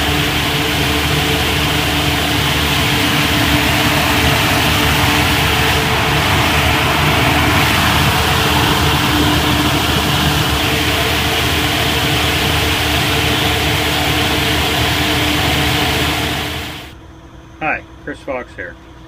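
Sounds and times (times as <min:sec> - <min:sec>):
cooling fan rushing air: 0:00.0 - 0:17.0
diesel engine running: 0:00.0 - 0:18.0.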